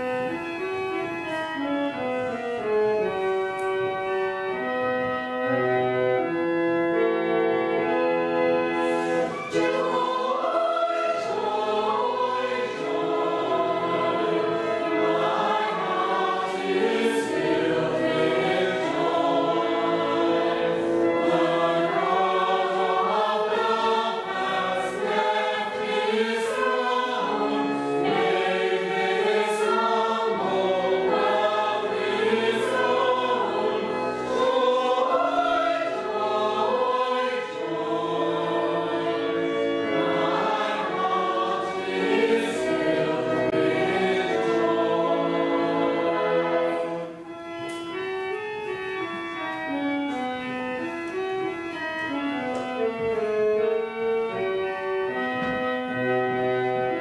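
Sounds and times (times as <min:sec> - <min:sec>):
choir singing a carol: 0:00.0 - 0:57.0
church organ chords: 0:00.0 - 0:57.0.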